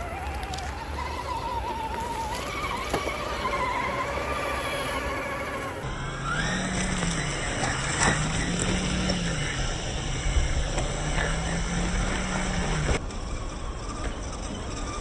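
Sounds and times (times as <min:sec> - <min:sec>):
electric motor and gear whine: 0:00.0 - 0:15.0
low drone rising and falling: 0:00.0 - 0:15.0.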